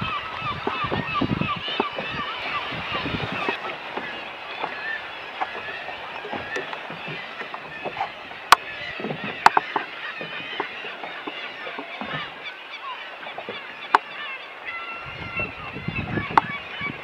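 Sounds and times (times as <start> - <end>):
seabirds calling: 0.0 - 17.0.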